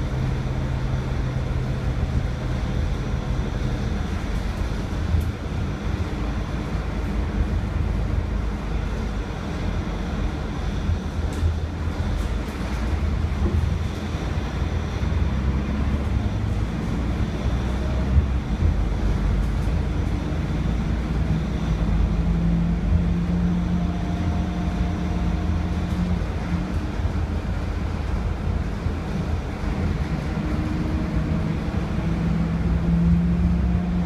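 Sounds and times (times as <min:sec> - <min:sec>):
bus diesel engine drone: 0:00.0 - 0:34.0.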